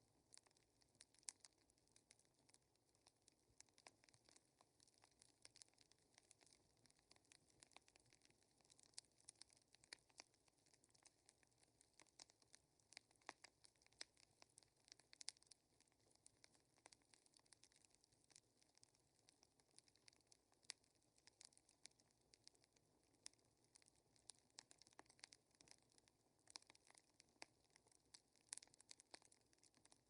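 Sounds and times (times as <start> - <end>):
small fire crackling: 0.0 - 30.0.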